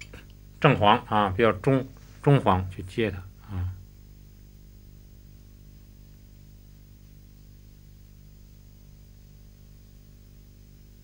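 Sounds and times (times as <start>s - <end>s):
low electrical hum with hiss: 0.0s - 11.0s.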